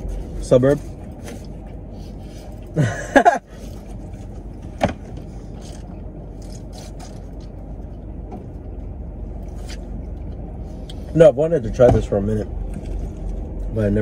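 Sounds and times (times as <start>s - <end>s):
car engine hum inside cabin: 0.0s - 14.0s.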